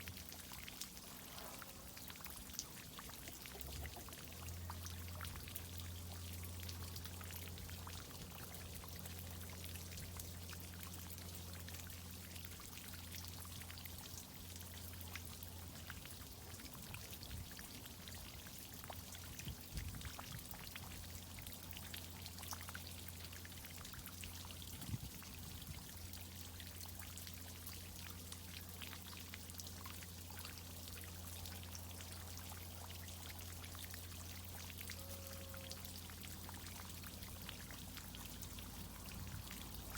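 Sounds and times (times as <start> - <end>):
irrigation water pouring and spattering: 0.0 - 39.9.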